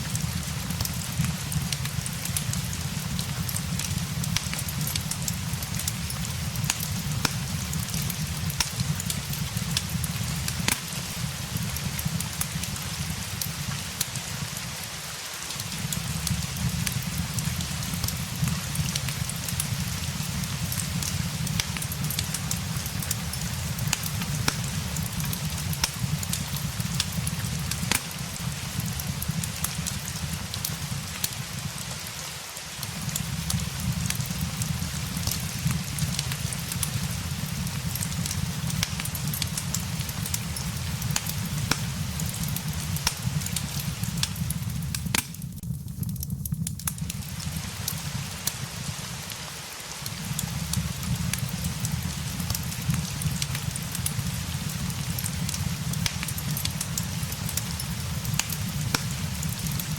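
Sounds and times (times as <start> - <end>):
fireplace crackling: 0.0 - 59.9
steady rain: 0.0 - 59.9.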